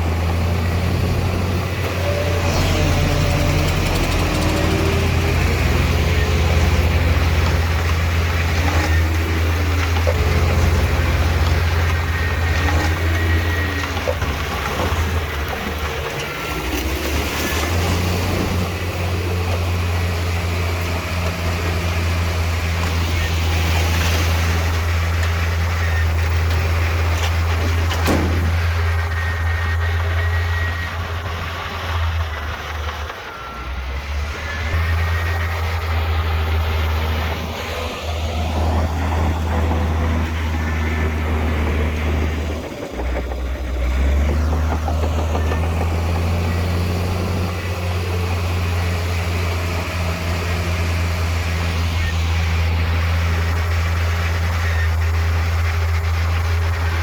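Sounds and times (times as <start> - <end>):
diesel engine low drone: 0.0 - 57.0.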